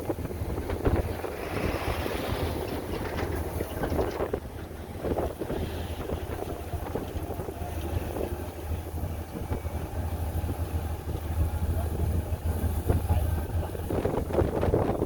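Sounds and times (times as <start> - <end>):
diesel engine rumbling: 0.0 - 15.0
wind buffeting microphone: 0.0 - 15.0.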